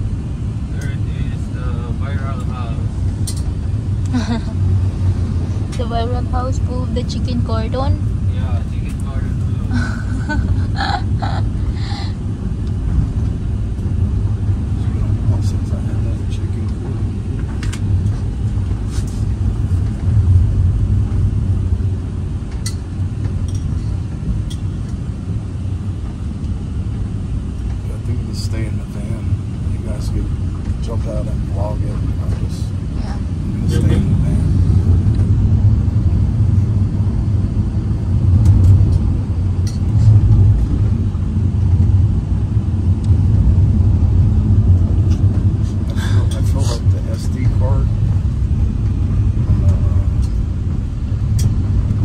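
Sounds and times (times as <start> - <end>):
road noise: 0.0 - 52.0
van engine rumble: 0.0 - 52.0.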